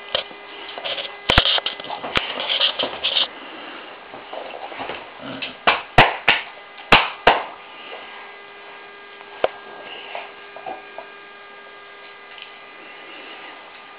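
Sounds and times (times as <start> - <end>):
electrical hum with high whine: 0.0 - 13.9.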